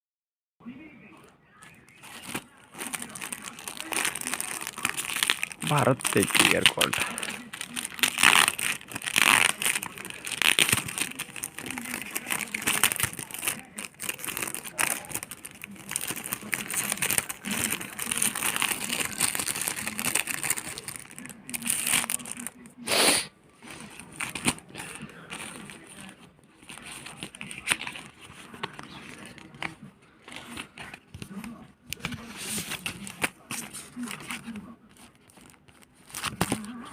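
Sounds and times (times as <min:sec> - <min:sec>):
packaging crinkling and rustling: 0:02.0 - 0:22.6, 0:23.7 - 0:36.9.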